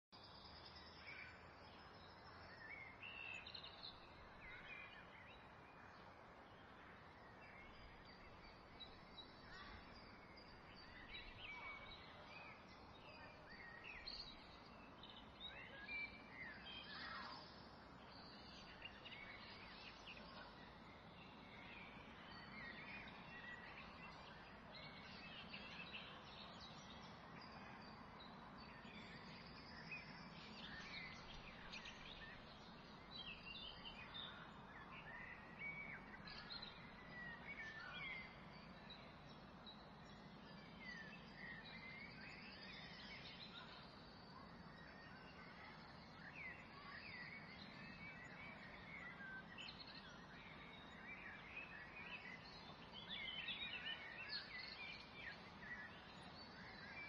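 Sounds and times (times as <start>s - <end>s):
faint birds chirping: 0.1s - 57.0s.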